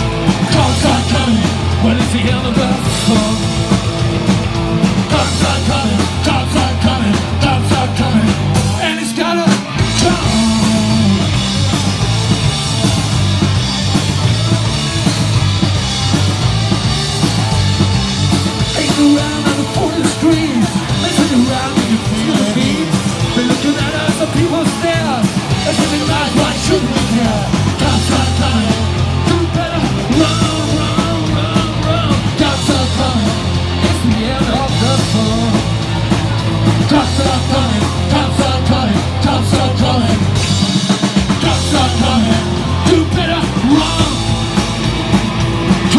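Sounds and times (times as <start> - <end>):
live rock band playing: 0.0 - 45.9
person singing: 0.3 - 3.8, 5.0 - 11.9, 16.1 - 36.1, 36.7 - 44.6.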